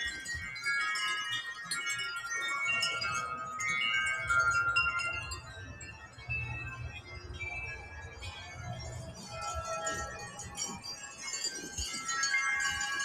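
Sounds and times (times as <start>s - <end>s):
wind chimes ringing: 0.0s - 13.0s.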